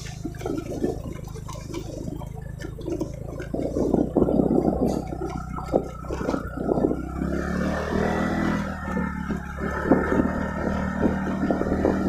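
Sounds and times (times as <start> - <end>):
motorcycle engine running: 0.0 - 12.0
motorcycle jolting over bumps: 0.0 - 12.0.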